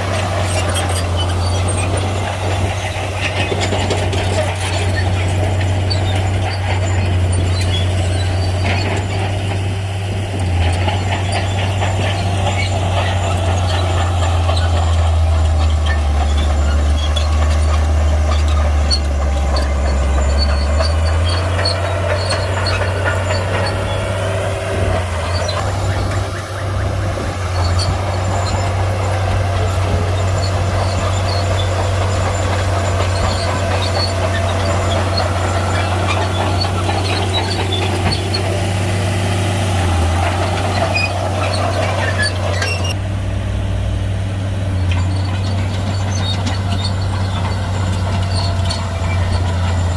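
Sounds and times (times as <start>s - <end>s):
steel tracks squealing: 0.0s - 43.0s, 44.6s - 49.9s
bulldozer diesel engine: 0.0s - 49.9s.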